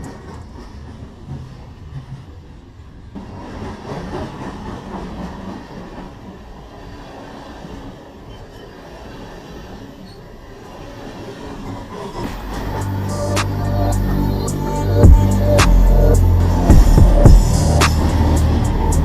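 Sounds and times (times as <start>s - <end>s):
rolling vehicle rumble: 0.0s - 19.0s.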